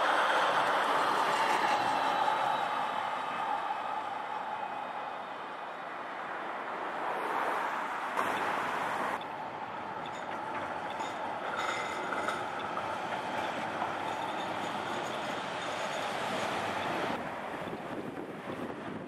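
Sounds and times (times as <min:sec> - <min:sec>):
electric tram running past: 0:00.0 - 0:06.4, 0:08.2 - 0:19.0
city traffic noise: 0:00.0 - 0:19.0
faint high whine of tram: 0:00.0 - 0:19.0.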